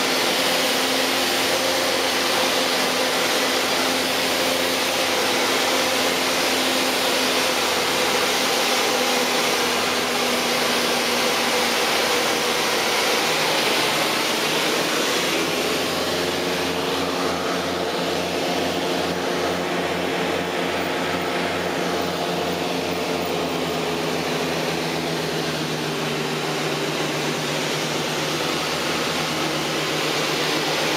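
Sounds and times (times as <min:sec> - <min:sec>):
piston engines and propellers droning: 0:00.0 - 0:30.9.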